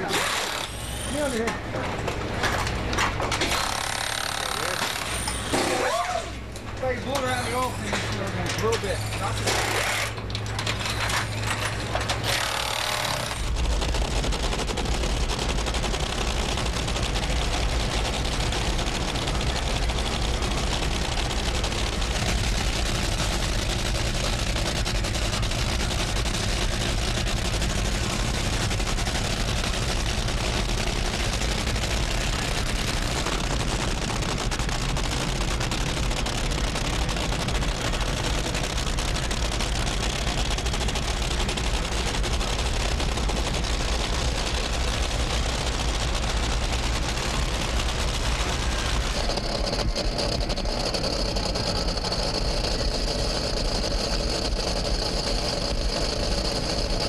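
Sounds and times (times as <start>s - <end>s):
dragster engines crackling: 0.0s - 57.0s.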